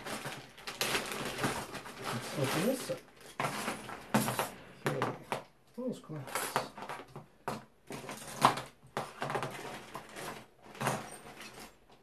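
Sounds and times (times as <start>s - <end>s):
plastic bag rustling: 0.0s - 5.4s, 6.1s - 12.0s.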